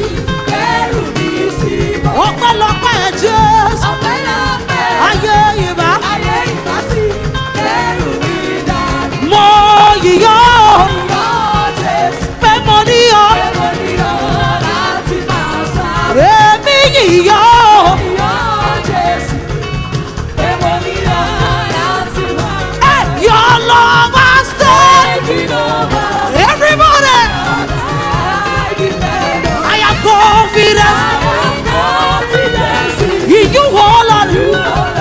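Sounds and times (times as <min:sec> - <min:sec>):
backing voices singing: 0:00.0 - 0:35.0
gospel band playing: 0:00.0 - 0:35.0
lead voice singing: 0:00.0 - 0:35.0.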